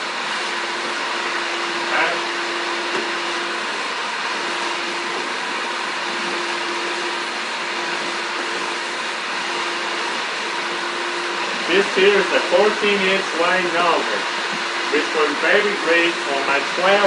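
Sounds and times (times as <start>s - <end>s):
vacuum cleaner running: 0.0s - 17.0s
vacuum nozzle on hard floor: 0.0s - 17.0s.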